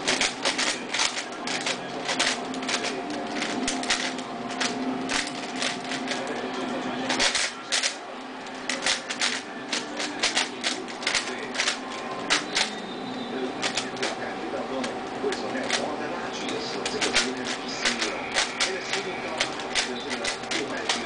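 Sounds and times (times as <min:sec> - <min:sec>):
puzzle cube plastic clicking: 0:00.0 - 0:06.4, 0:07.1 - 0:12.8, 0:13.6 - 0:14.2, 0:16.5 - 0:21.0.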